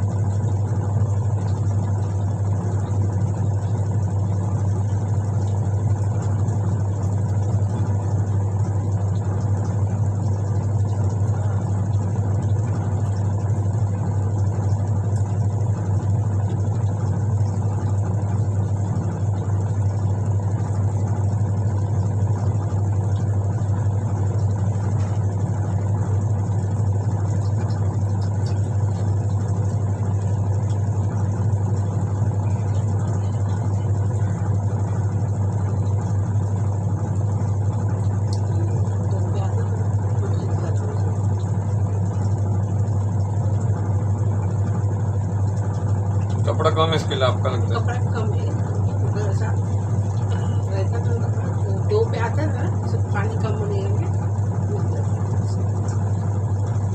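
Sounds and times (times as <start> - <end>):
washing machine motor humming: 0.0 - 56.9.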